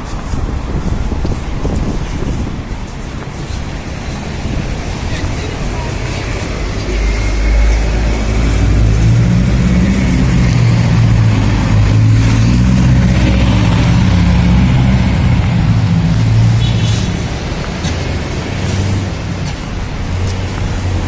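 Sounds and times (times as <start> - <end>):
motor vehicle rumble: 0.0 - 21.0.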